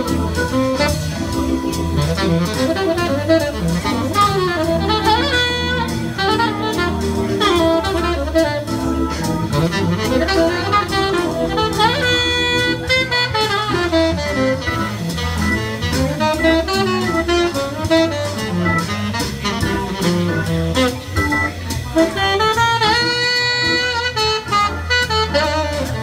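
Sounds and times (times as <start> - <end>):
bass line: 0.0 - 26.0
drum kit: 0.0 - 26.0
jazz saxophone melody: 0.0 - 26.0.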